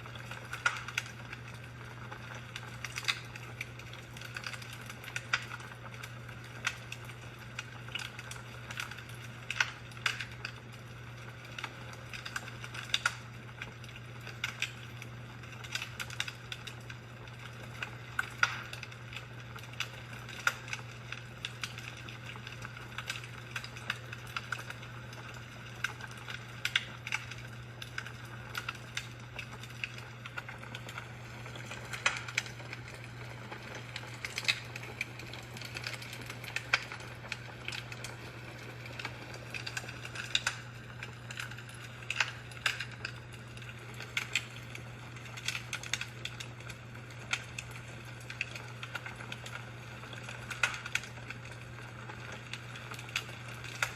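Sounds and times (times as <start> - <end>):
steady low hum: 0.0 - 53.0
fire crackling and popping: 0.0 - 53.9.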